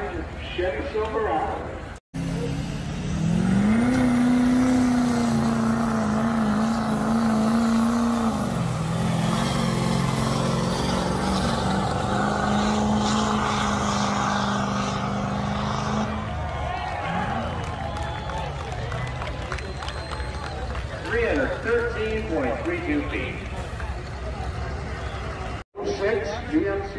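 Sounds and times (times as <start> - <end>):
vehicle engine running hard: 2.2 - 26.9.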